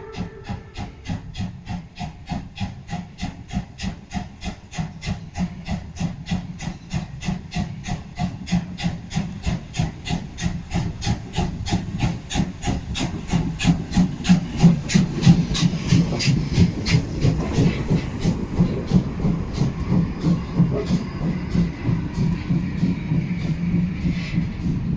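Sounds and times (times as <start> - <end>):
steam locomotive exhaust chuffs: 0.0 - 24.9.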